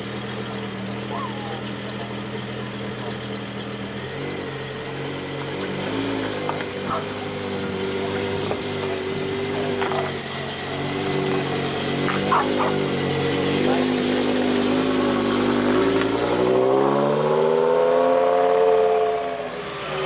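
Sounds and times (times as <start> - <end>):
car engine idling: 0.0 - 17.0, 18.9 - 20.0.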